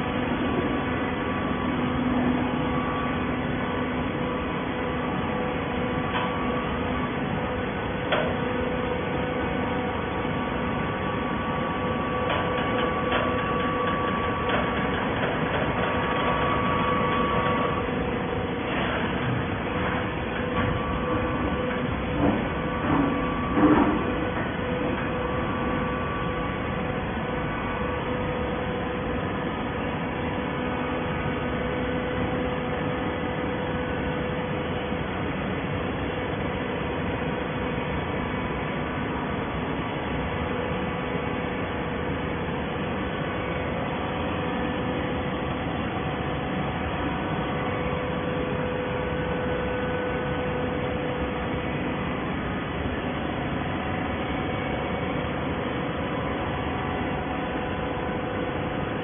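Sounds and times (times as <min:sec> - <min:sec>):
hydraulic baler hum: 0:00.0 - 0:59.0.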